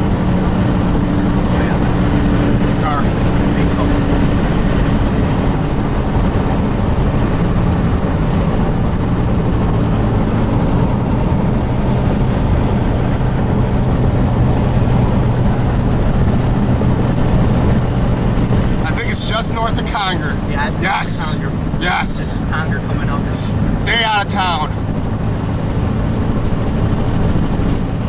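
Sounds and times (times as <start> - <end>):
car engine hum: 0.0 - 28.0
road and wind noise: 0.0 - 28.0.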